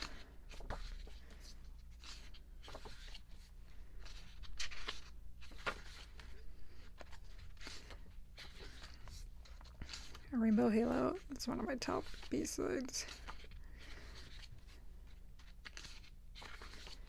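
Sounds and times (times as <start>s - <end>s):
photobook pages turning: 0.0s - 17.0s.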